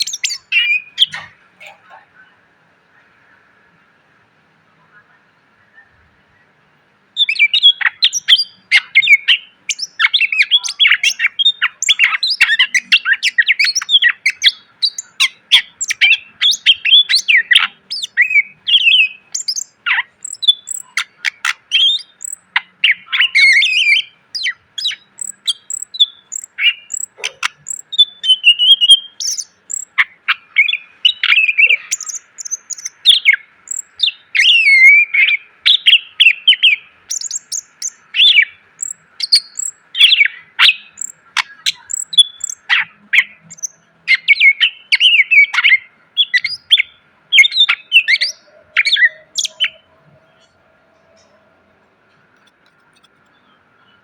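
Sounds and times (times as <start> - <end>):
bird singing varied chirps: 0.0 - 1.4, 5.7 - 51.4.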